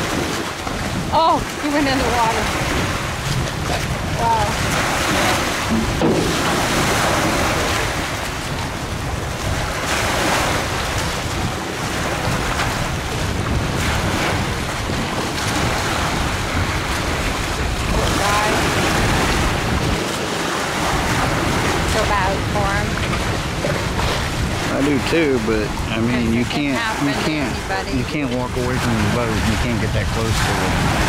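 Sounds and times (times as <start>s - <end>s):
waves breaking against concrete: 0.0s - 31.0s
wind buffeting microphone: 0.0s - 31.0s.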